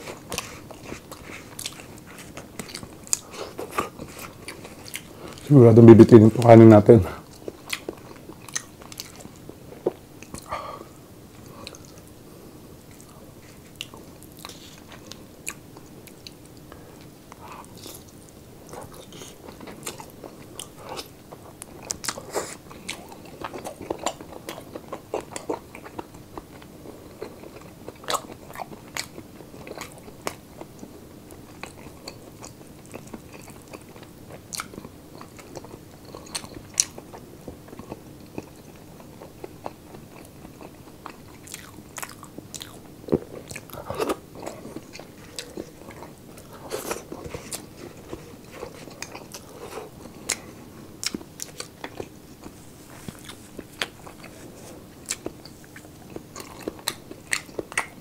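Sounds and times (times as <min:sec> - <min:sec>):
person chewing and crunching: 0:00.0 - 0:05.6, 0:07.2 - 0:10.5, 0:12.9 - 0:58.0
faint steady hum: 0:00.0 - 0:58.0.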